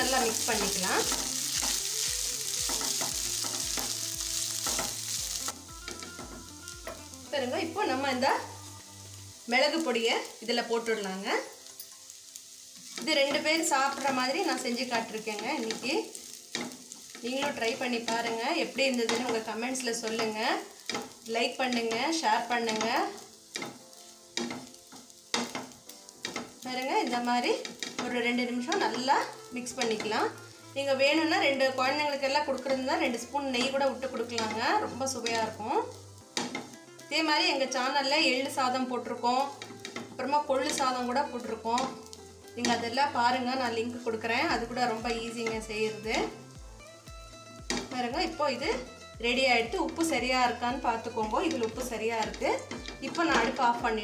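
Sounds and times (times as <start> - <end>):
frying sizzle: 0.0 - 54.0.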